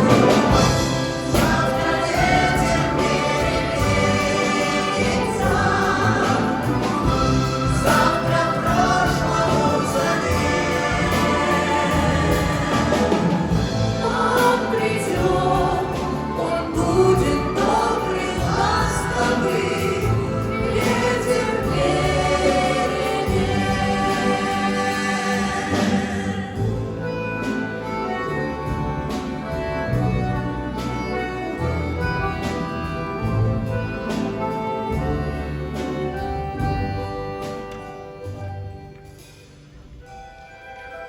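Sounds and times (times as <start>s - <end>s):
choir singing: 0.0s - 39.3s
folk instrument orchestra: 0.0s - 41.0s.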